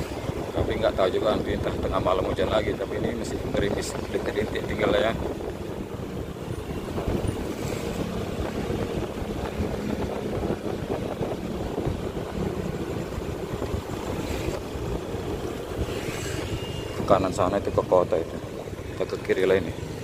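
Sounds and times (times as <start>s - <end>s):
motorcycle engine cruising: 0.0s - 20.0s
wind buffeting microphone: 0.0s - 20.0s.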